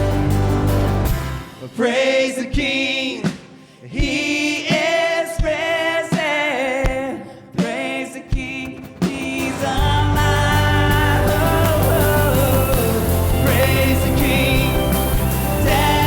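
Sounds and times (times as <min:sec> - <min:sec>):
worship band playing: 0:00.0 - 0:06.6, 0:08.6 - 0:16.0
singers with vibrato: 0:01.4 - 0:16.0.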